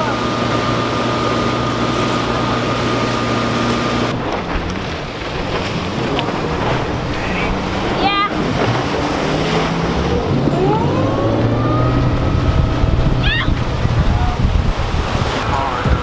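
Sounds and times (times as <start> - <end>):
boat engine running: 0.0 - 16.0
water rushing: 0.0 - 16.0
wind on microphone: 1.1 - 16.0.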